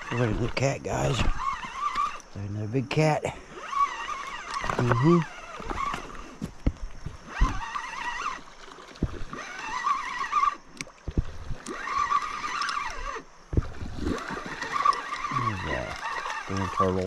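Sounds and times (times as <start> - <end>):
fishing reel whirring: 0.0 - 17.0.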